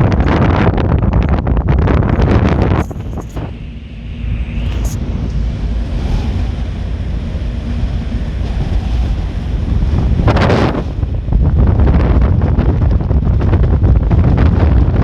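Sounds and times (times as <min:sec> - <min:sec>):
ferry engine rumble: 0:00.0 - 0:15.0
wind buffeting microphone: 0:00.0 - 0:15.0.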